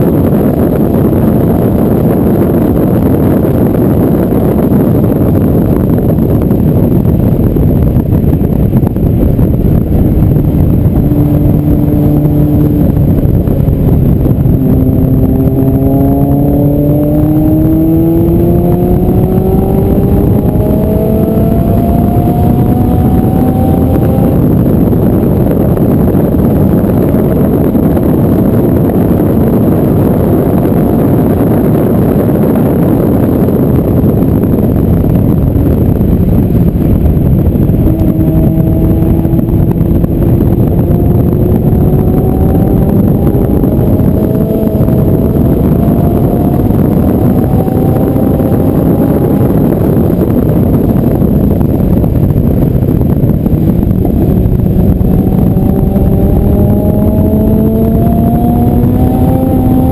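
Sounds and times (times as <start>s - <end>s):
car engine accelerating: 0.0s - 59.9s
wind and road rumble: 0.0s - 59.9s.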